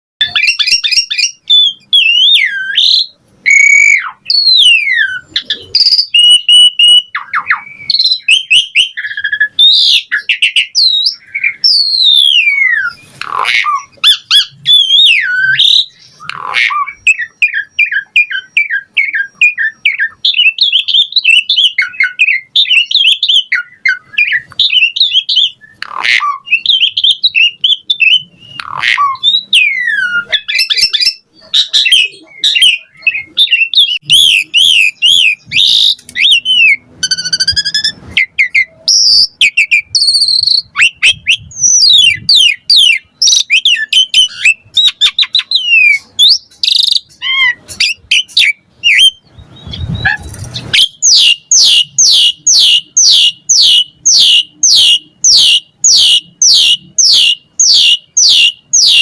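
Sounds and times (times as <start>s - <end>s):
starling singing: 0.2s - 59.0s.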